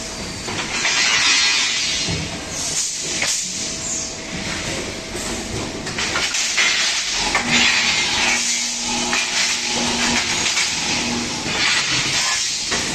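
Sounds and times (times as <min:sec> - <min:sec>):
metal-working machine hissing: 0:00.4 - 0:04.2, 0:05.9 - 0:12.9.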